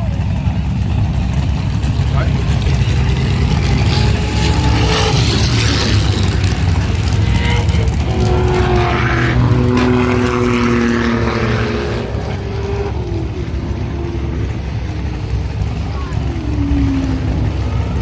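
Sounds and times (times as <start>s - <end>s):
cars driving past loudly: 0.0s - 18.0s.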